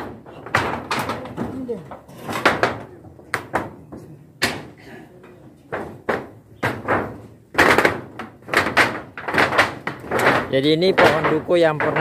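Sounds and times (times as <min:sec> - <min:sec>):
footsteps on a metal roof: 0:00.0 - 0:12.0.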